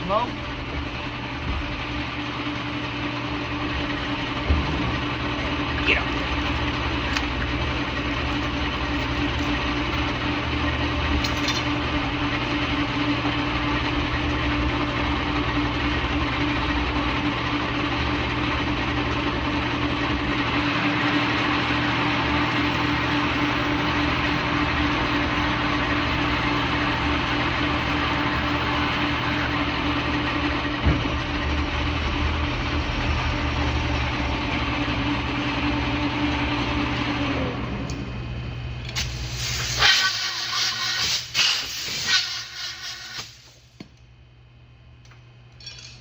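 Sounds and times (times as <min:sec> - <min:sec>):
lathe motor humming: 0:00.0 - 0:38.8.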